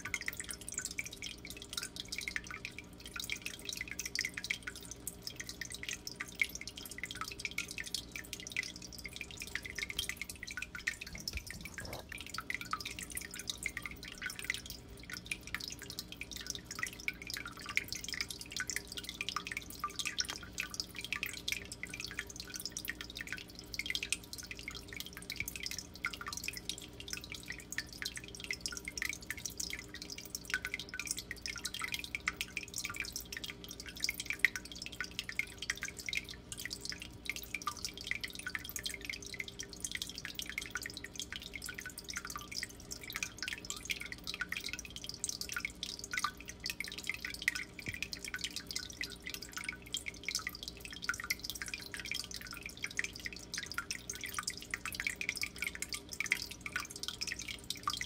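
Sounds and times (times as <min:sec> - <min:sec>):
pump humming: 0:00.0 - 0:58.0
water trickling and splashing: 0:00.0 - 0:58.0.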